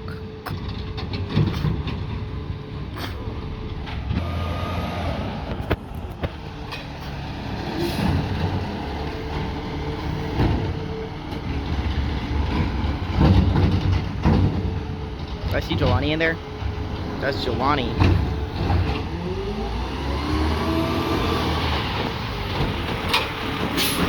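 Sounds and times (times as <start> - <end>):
garbage truck engine running: 0.0 - 24.0.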